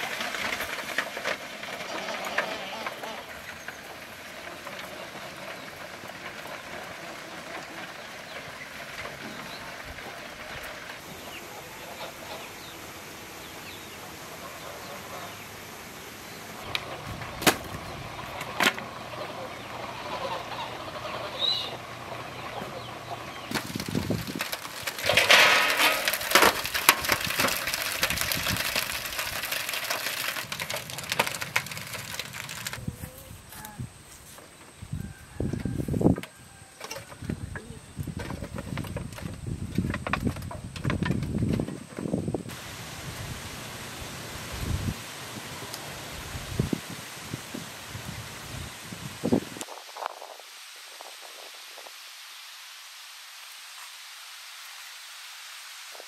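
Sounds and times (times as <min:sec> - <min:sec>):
steam and wood fire hissing: 0:00.0 - 0:41.4, 0:42.1 - 0:56.0.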